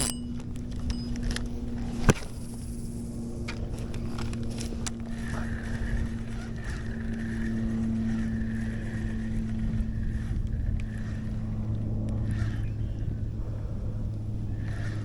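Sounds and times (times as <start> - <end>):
gear whine: 0.0 - 15.0
pedal drive low hum: 0.0 - 15.0.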